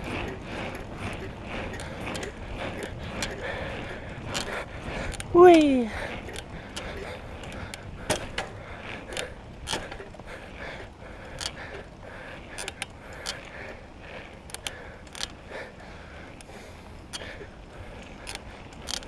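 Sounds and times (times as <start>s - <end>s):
bicycle chain clicking: 0.0s - 19.0s
wind and road rumble: 0.0s - 19.0s.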